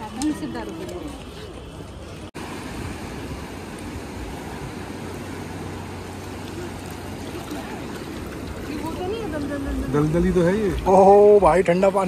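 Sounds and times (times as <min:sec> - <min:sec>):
river flowing and lapping: 0:00.0 - 0:12.0.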